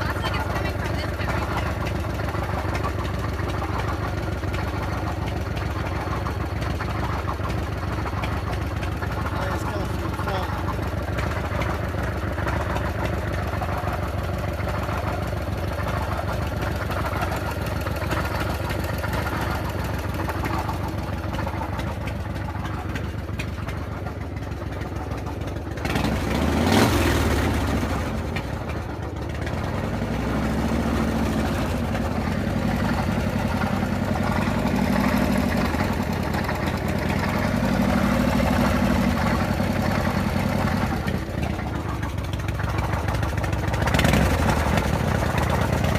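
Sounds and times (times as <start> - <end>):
engine mechanical noise: 0.0 - 45.9
motorcycle engine idling and revving: 0.0 - 45.9.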